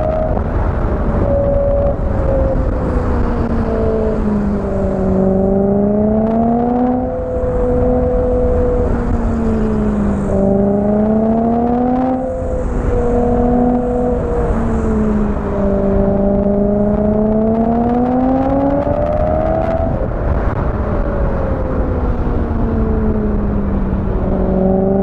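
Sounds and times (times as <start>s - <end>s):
car engine accelerating: 0.0s - 25.0s
road and tyre noise: 0.0s - 25.0s.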